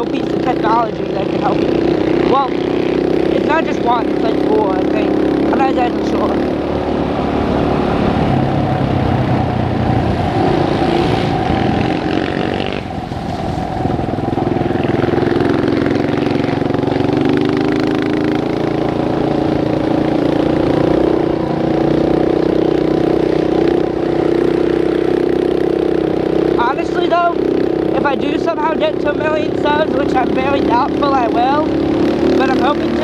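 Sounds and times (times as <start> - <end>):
dirt bike engine running: 0.0 - 33.0.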